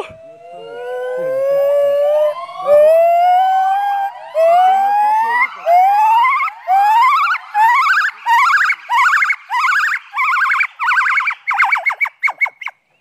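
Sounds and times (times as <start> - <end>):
gibbon whooping: 0.0 - 12.8.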